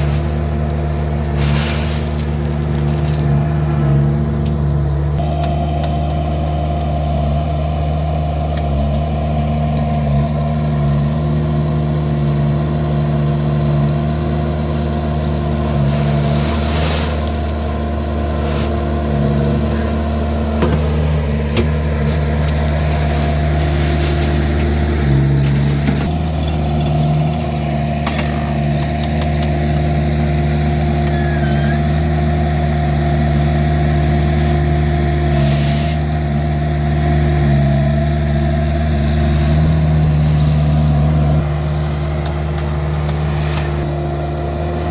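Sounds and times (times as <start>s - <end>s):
skid steer engine running: 0.0s - 44.9s.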